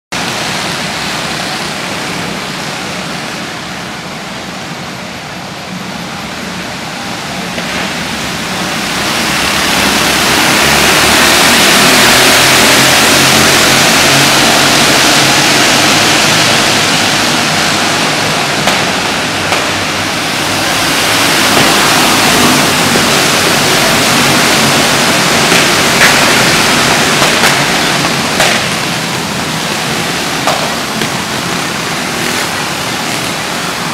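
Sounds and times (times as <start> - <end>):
go-kart engines racing: 0.2 - 33.9.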